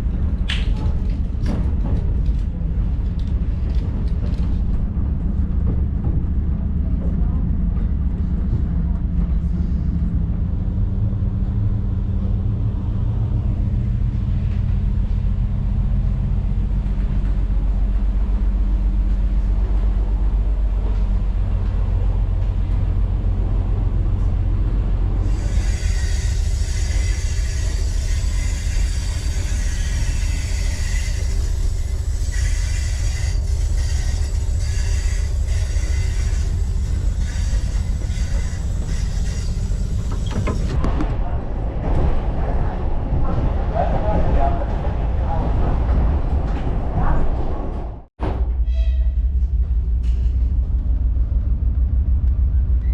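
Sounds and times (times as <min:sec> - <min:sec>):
diesel train engine rumbling: 0:00.0 - 0:52.9.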